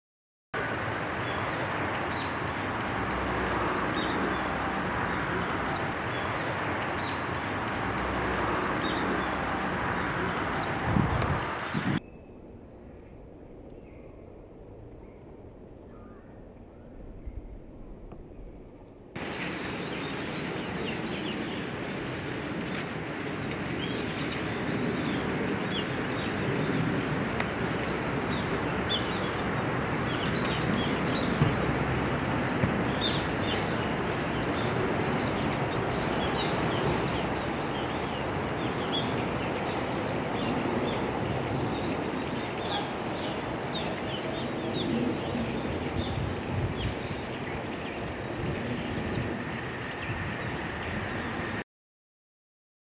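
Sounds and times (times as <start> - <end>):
steady background noise: 0.6 - 15.8, 18.7 - 51.6.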